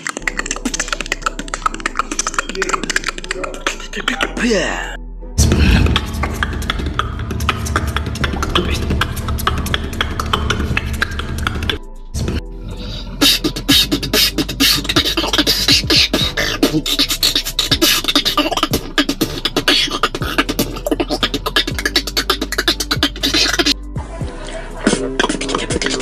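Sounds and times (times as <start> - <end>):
person beatboxing: 0.0 - 26.0.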